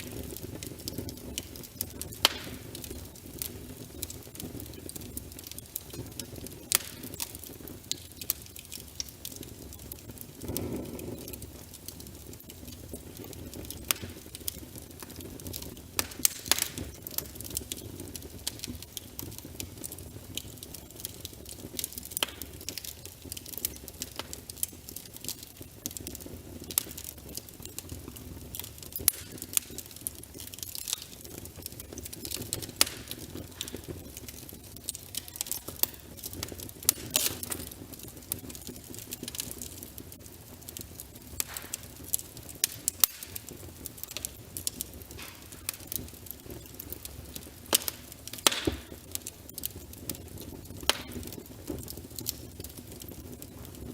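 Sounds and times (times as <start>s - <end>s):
steady rush of flame: 0.0s - 53.9s
wood logs crackling and popping: 0.0s - 53.9s.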